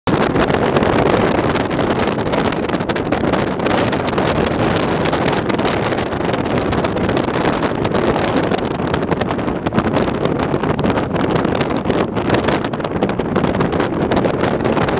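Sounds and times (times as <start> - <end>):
strong wind on microphone: 0.0 - 14.9.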